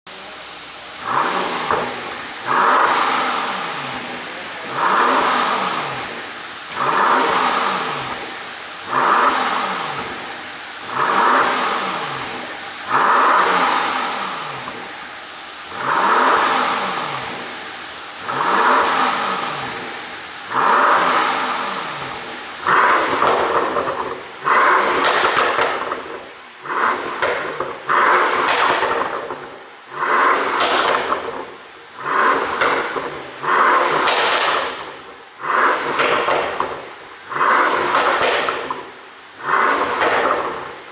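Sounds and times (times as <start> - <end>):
exhaust crackle: 0.1 - 40.9
car engine revving: 0.2 - 40.9.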